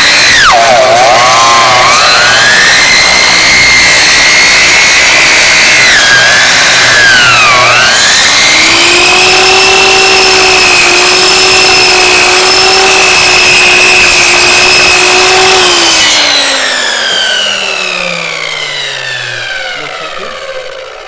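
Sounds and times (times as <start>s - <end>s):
electric chop saw whining: 0.0s - 21.0s.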